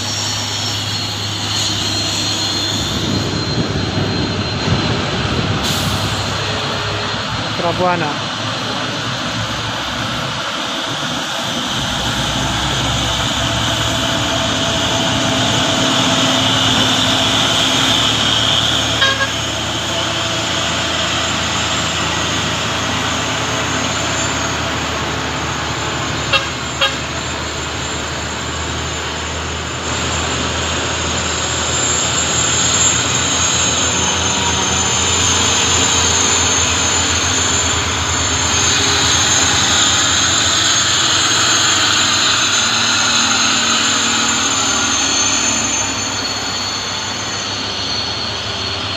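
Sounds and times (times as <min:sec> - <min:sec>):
heavy truck engines running: 0:00.0 - 0:48.9.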